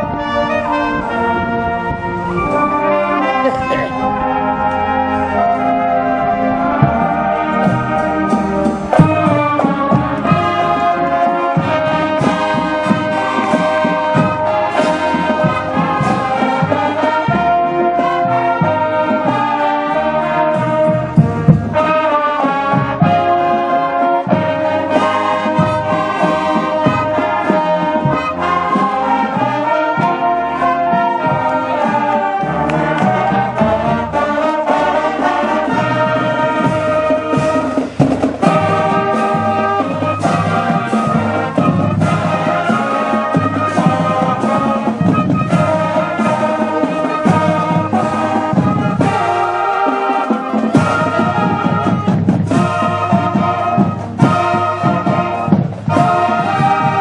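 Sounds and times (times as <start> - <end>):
drum beats: 0.0 - 57.0
marching band playing: 0.0 - 57.0
trombones and trumpets: 0.0 - 57.0.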